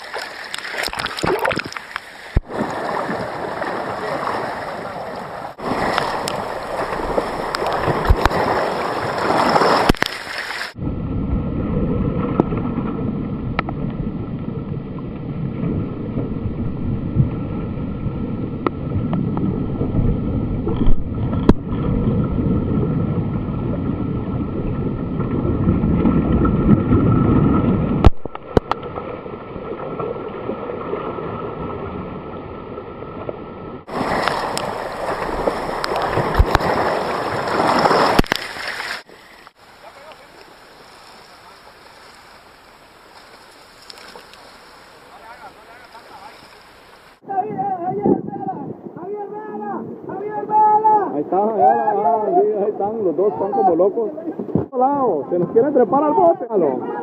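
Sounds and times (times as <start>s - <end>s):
sea water splashing: 0.0s - 47.4s
wind noise: 0.8s - 38.7s, 43.2s - 51.9s.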